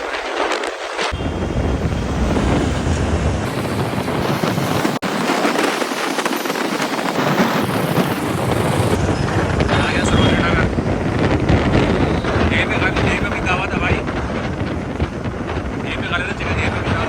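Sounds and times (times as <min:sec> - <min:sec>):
wind buffeting microphone: 0:00.0 - 0:17.0
road and traffic noise: 0:01.1 - 0:17.0.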